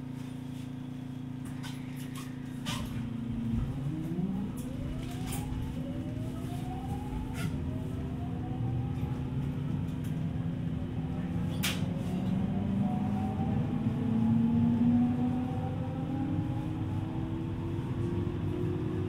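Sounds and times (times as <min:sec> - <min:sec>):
train running hum: 0:00.0 - 0:19.0
electric train motor whine: 0:02.8 - 0:19.0.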